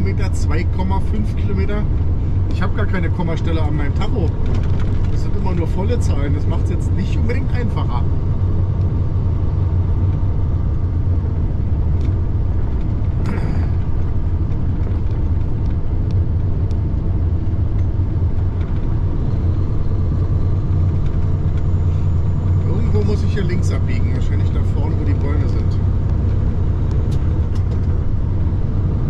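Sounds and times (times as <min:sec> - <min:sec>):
truck diesel engine and road drone: 0:00.0 - 0:29.0.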